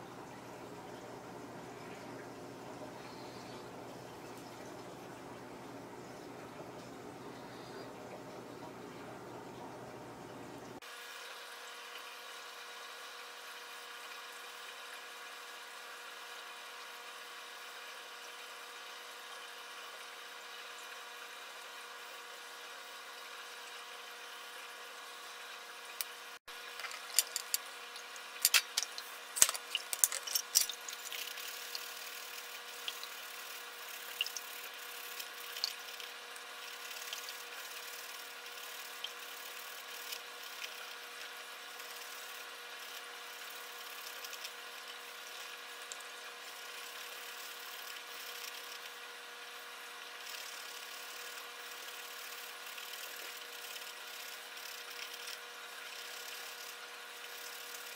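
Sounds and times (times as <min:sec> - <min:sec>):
steady background hum: 0:00.0 - 0:57.9.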